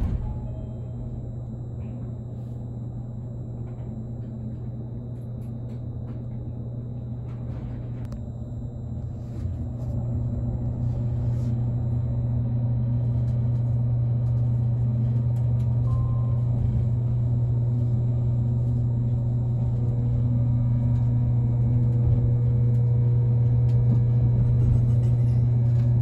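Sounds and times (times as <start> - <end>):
electric train hum: 0.0 - 26.0.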